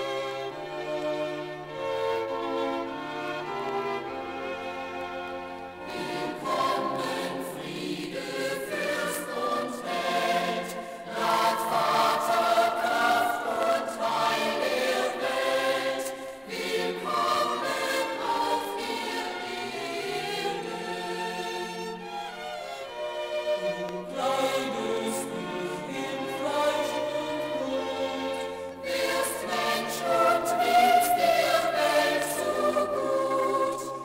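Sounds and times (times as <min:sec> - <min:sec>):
choir singing choral music: 0:00.0 - 0:34.0.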